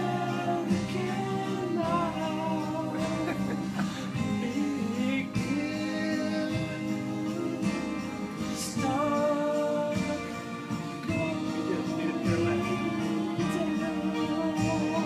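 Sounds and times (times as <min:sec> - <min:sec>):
acoustic guitar: 0:00.0 - 0:15.0
wordless held vocal: 0:00.0 - 0:15.0.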